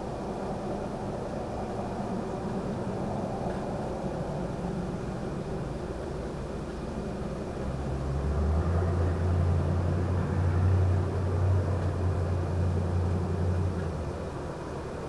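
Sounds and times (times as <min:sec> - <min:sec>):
vehicle passing low rumble: 0:00.0 - 0:15.0.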